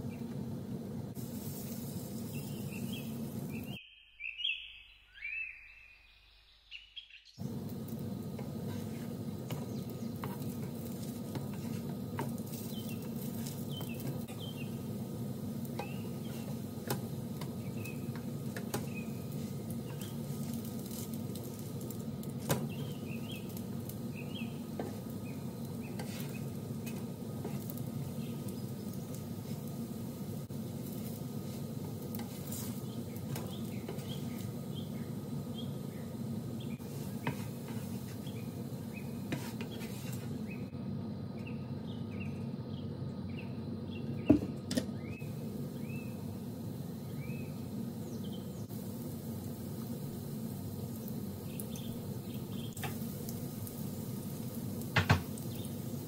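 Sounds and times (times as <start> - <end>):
bread sizzling in oil: 0.0 - 3.8, 7.4 - 40.8, 44.2 - 56.0
birds chirping: 1.6 - 21.4, 22.6 - 29.5, 32.7 - 48.7, 50.6 - 56.0.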